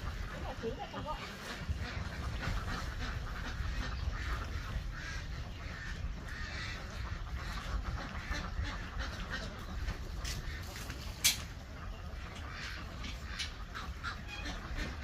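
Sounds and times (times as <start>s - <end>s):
ducks quacking: 0.0s - 15.0s
steady low rumble: 0.0s - 15.0s.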